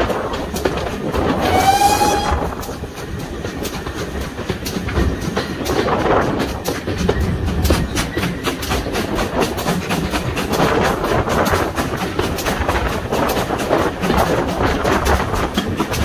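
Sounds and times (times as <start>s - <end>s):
steam train running: 0.0s - 16.0s.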